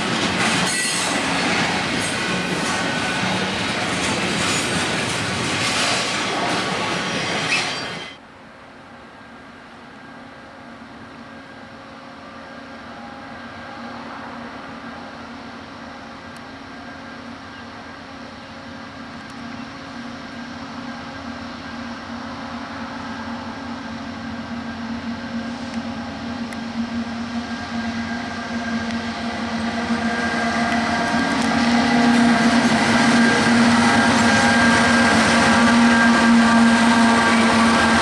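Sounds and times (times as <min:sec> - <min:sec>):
freight train engine drone: 0:00.0 - 0:38.0.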